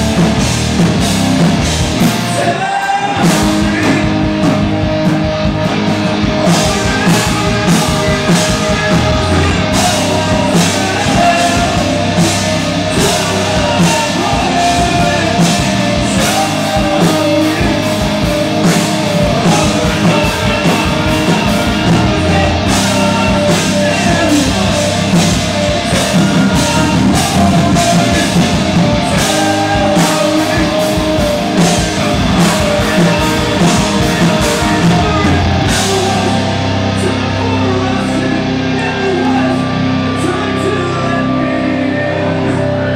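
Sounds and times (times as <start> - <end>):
drum kit beat: 0.0 - 37.0
distorted electric guitars: 0.0 - 42.9
person singing: 2.0 - 42.9.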